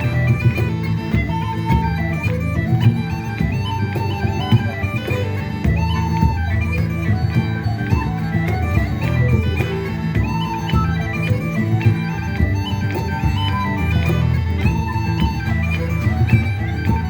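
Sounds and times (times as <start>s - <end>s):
bagpipes playing: 0.0s - 17.0s.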